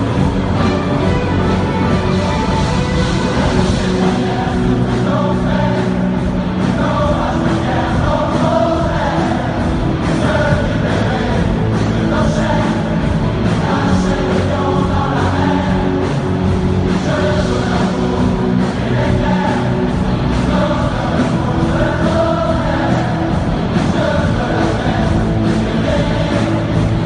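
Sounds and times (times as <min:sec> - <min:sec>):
group of voices singing: 0:00.0 - 0:27.0
live rock band playing: 0:00.0 - 0:27.0
many drum kits playing: 0:00.0 - 0:27.0.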